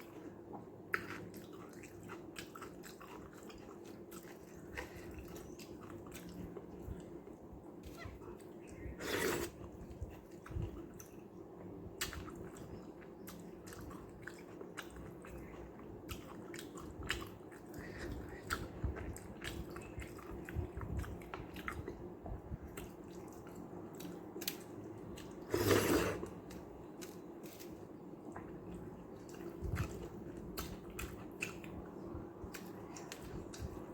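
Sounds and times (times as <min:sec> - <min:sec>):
person chewing with wet mouth sounds: 0:00.0 - 0:33.9.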